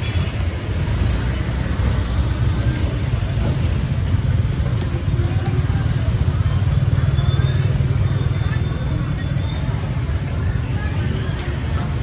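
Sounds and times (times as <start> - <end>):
street traffic rumble: 0.0 - 12.0
vehicles passing close by: 0.0 - 12.0.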